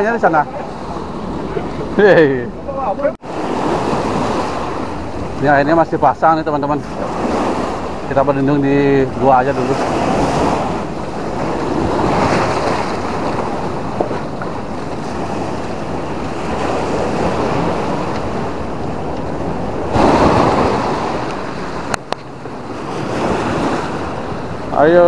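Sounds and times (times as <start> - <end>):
waves washing up a beach: 0.0 - 25.0
wind buffeting microphone: 0.0 - 25.0.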